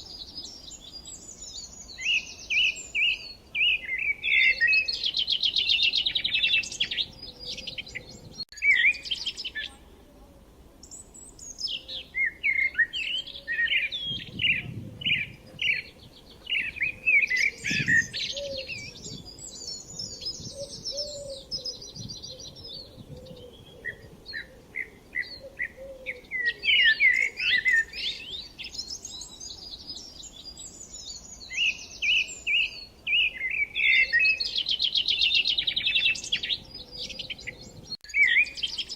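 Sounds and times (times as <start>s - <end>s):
small birds chirping and trilling: 0.0s - 10.0s, 10.8s - 38.9s.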